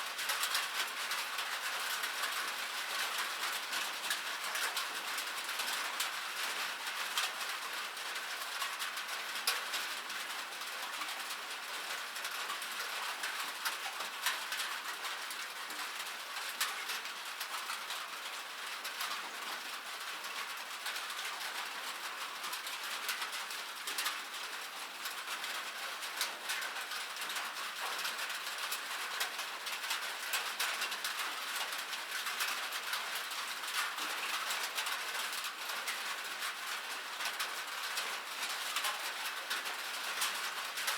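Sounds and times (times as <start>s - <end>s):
rain falling on metal: 0.0s - 40.9s.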